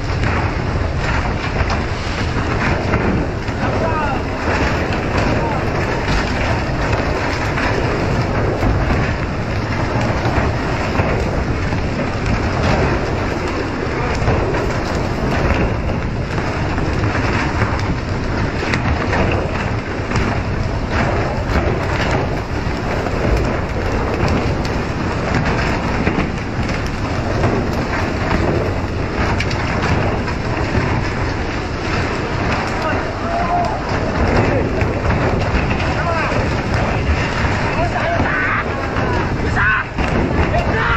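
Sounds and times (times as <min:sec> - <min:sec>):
low rumble of moving boat: 0:00.0 - 0:40.9
short knocks and splashes: 0:00.0 - 0:40.9
water spray pattering onto sea: 0:00.0 - 0:40.9.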